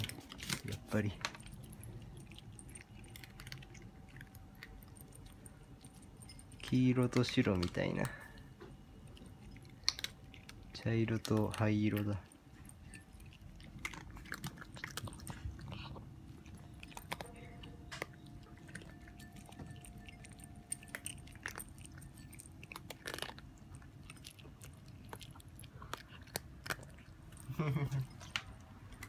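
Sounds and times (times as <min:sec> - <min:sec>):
cats crunching dry food: 0:00.0 - 0:29.0.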